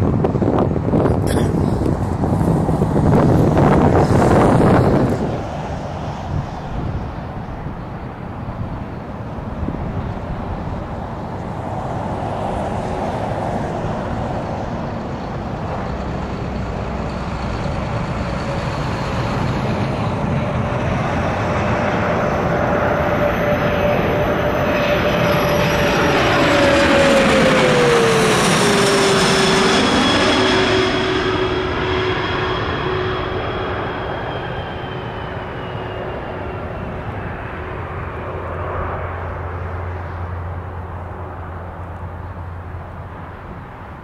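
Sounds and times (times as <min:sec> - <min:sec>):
jet engines whining overhead: 0:00.0 - 0:44.0.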